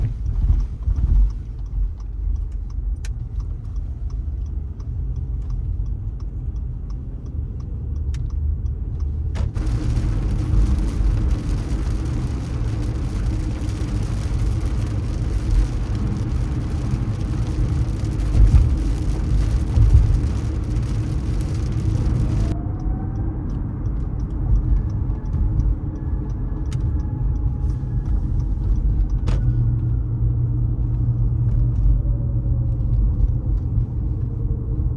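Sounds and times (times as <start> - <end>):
faint regular ticking: 0.0 - 31.9
car engine and tyres rumbling: 0.0 - 34.9.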